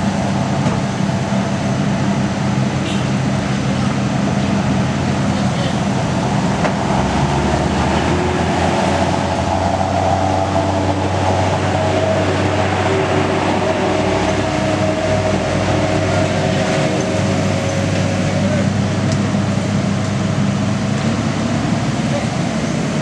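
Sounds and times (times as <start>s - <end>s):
excavator diesel engine under load: 0.0s - 23.0s
hydraulics working: 0.0s - 23.0s.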